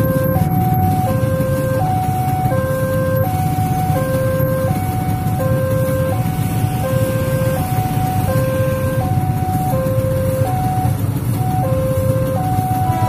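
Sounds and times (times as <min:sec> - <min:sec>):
level crossing two-tone alarm: 0:00.0 - 0:13.0
motorcycle engines idling: 0:00.0 - 0:13.0.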